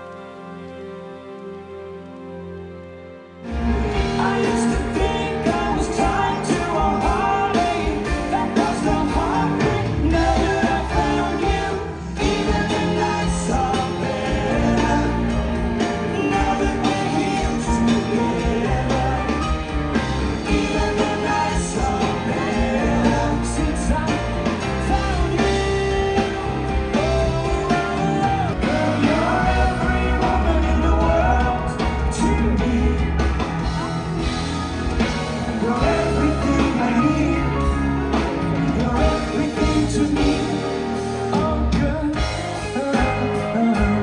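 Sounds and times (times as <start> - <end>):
guitar: 0.0 - 44.0
rock song with lead vocal: 3.5 - 44.0
heavy bass line: 3.6 - 44.0.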